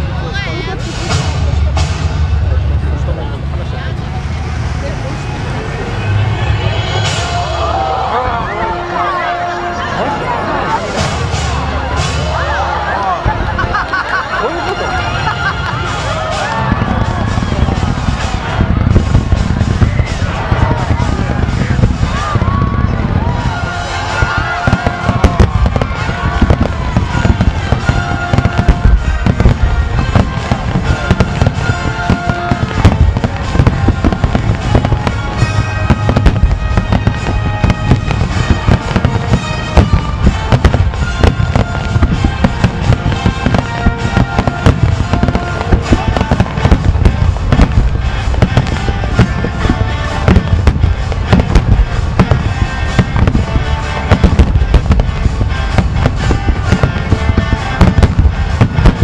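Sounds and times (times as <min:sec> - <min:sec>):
fireworks booming and crackling: 0:00.0 - 0:09.9, 0:10.6 - 0:59.0
music from loudspeakers: 0:06.8 - 0:59.0.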